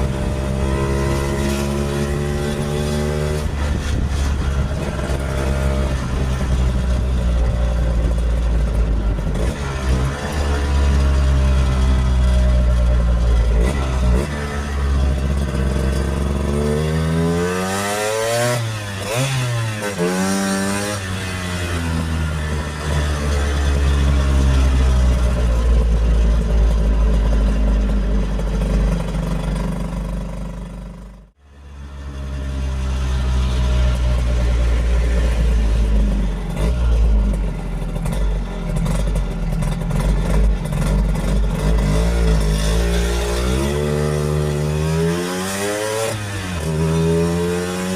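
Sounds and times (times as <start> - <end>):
scooter two-stroke engine revving: 0.0 - 47.9.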